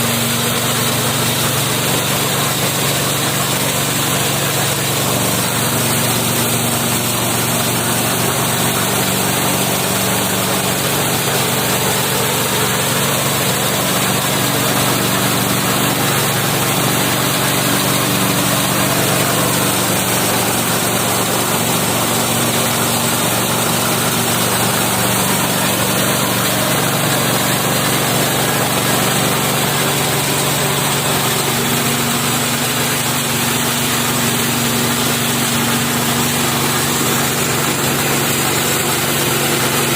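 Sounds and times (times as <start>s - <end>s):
engine drone: 0.0s - 39.9s
mill hissing: 0.0s - 39.9s.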